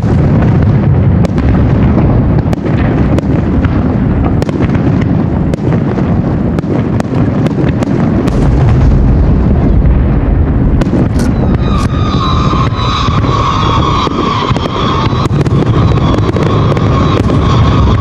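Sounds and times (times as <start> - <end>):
fireworks booming: 0.0 - 18.0
fireworks cracks and pops: 0.0 - 18.0.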